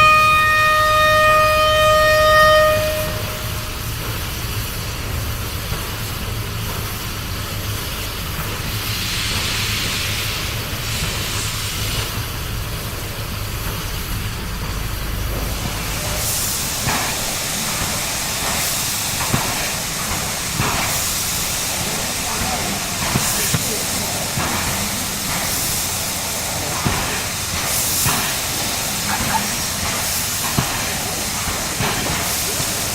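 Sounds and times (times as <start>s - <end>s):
steam locomotive hissing: 0.0s - 32.9s.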